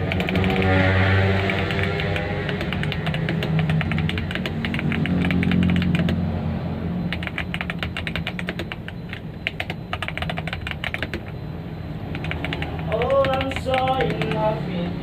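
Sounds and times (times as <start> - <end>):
mechanical keyboard typing: 0.0 - 6.2, 7.1 - 11.4, 12.1 - 14.6.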